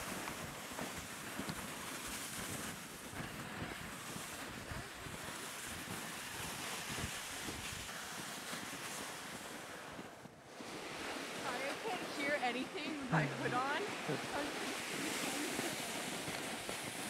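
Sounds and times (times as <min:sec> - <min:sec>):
footsteps crunching through snow: 0:00.0 - 0:17.0
plastic sled scraping on snow: 0:00.0 - 0:17.0
wind buffeting microphone: 0:00.0 - 0:17.0.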